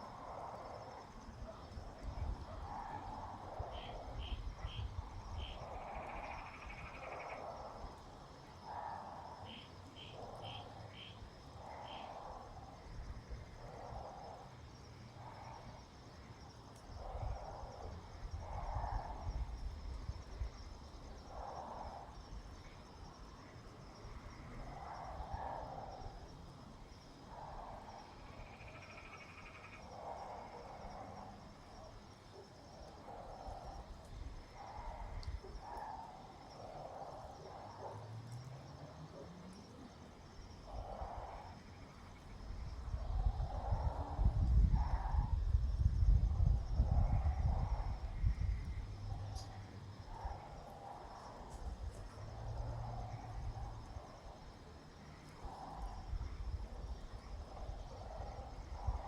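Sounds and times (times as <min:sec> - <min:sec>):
high insect trill: 0:00.0 - 0:59.0.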